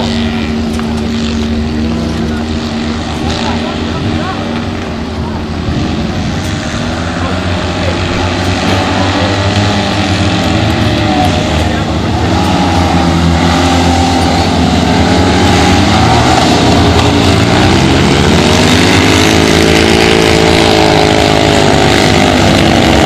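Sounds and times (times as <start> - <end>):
racing car engines at high revs: 0.0 - 23.0.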